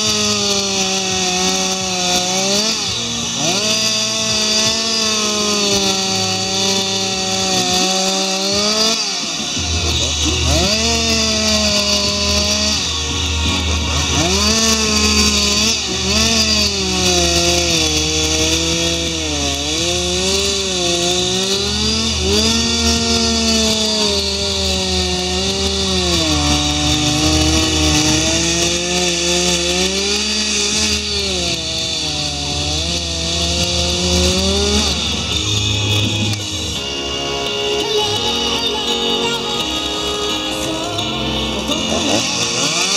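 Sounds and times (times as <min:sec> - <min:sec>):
chainsaw cutting wood revving: 0:00.0 - 0:42.9.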